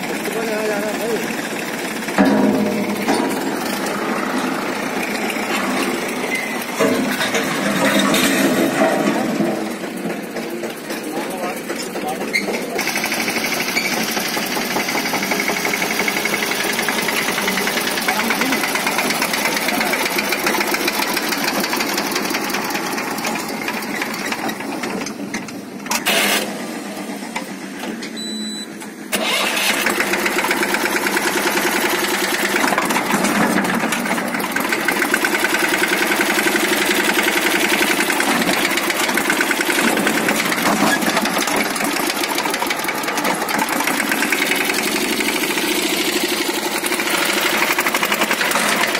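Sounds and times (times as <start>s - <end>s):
tractor diesel engine chugging: 0.0s - 48.9s.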